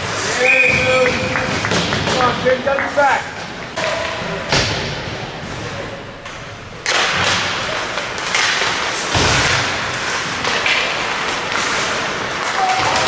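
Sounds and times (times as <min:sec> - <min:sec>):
skates scraping ice: 0:00.0 - 0:04.0, 0:06.4 - 0:13.0
hockey sticks hitting puck: 0:00.0 - 0:13.0.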